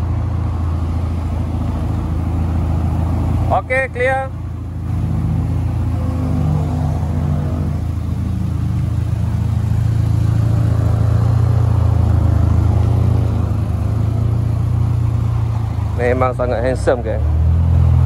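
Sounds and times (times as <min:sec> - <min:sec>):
car engine low drone: 0:00.0 - 0:18.0.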